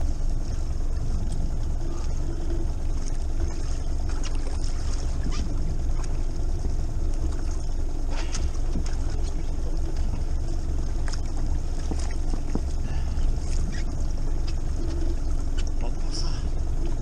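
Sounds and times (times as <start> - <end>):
boat low rumble: 0.0 - 17.0.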